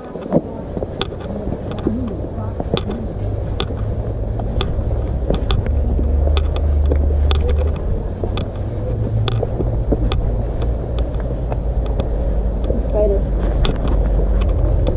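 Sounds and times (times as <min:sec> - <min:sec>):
footsteps on rocky trail: 0:00.0 - 0:14.9
wind rumbling on microphone: 0:00.0 - 0:14.9.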